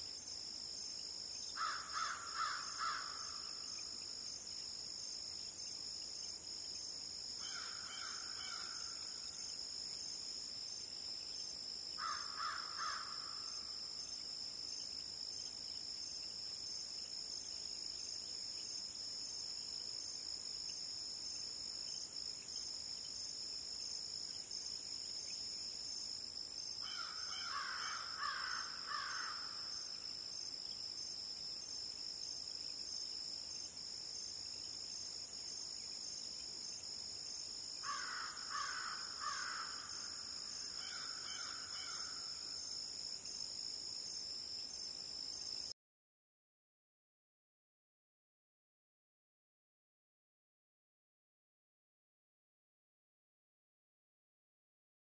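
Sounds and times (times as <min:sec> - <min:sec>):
crickets and insects chirping: 0:00.0 - 0:45.8.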